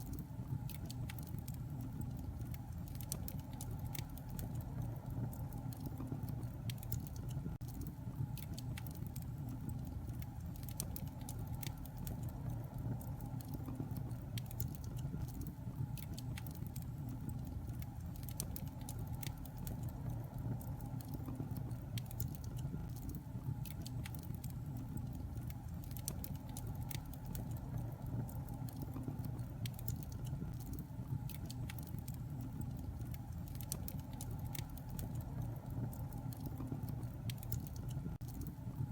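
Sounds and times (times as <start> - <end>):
fire crackling and popping: 0.0 - 38.9
fire flames rumbling: 0.0 - 38.9.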